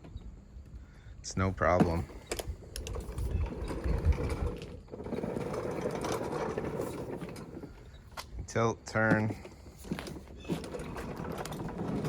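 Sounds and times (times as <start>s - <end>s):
mower rattling and clicking: 1.8s - 12.0s.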